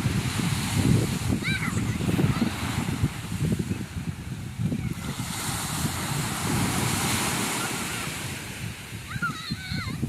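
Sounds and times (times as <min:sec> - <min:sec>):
sea waves washing on shore: 0:00.0 - 0:10.0
wind rumbling on microphone: 0:00.0 - 0:10.0.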